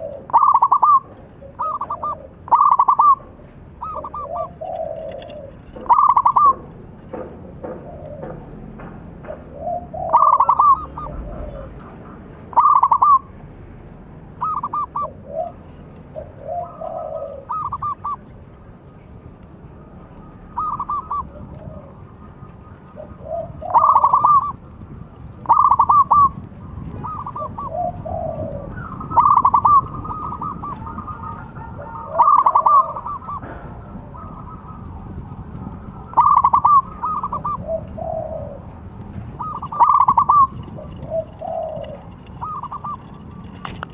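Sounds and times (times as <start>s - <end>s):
dove cooing: 0.0s - 13.3s, 14.3s - 18.4s, 19.8s - 43.9s.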